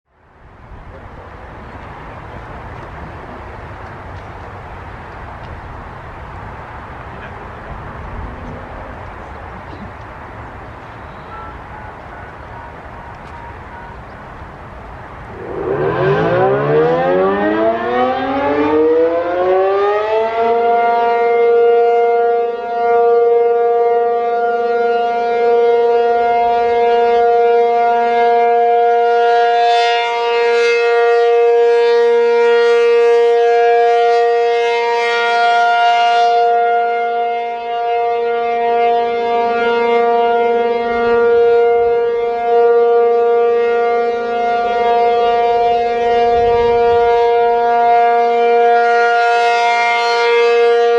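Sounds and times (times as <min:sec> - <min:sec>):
warning siren: 0:01.3 - 0:50.9.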